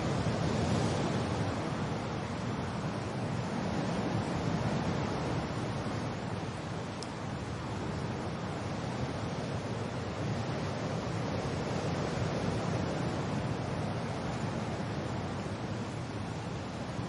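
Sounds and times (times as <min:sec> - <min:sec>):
wind and rain rushing: 0:00.0 - 0:17.0.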